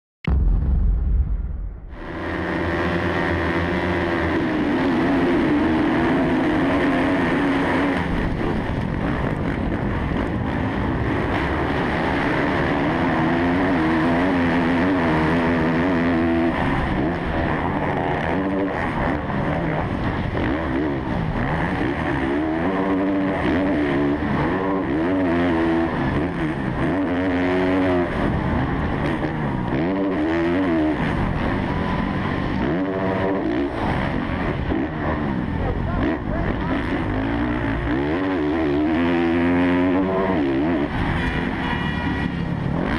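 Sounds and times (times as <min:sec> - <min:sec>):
motocross engine revving: 0:01.9 - 0:42.9.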